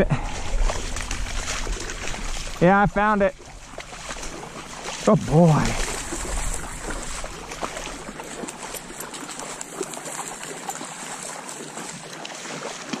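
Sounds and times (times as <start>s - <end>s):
water trickling and lapping: 0.0s - 13.0s
small splashes and ticks: 0.2s - 13.0s.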